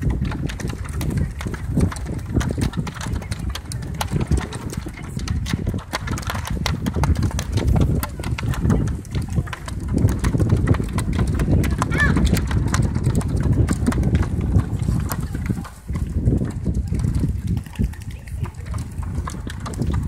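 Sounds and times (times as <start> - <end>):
sharp clicks and crackles: 0.0 - 20.0
wind buffeting microphone: 0.0 - 20.0.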